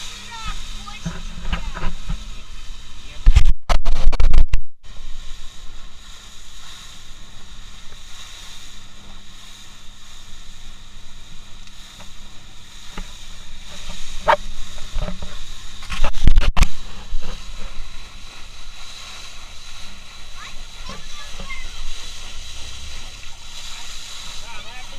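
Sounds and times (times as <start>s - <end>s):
boat engine hiss and hum: 0.0s - 4.0s, 4.8s - 24.9s.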